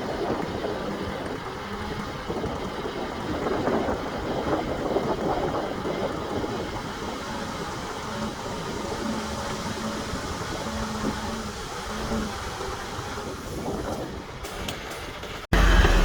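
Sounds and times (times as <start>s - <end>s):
diesel earthmoving machine working: 0.0s - 16.0s.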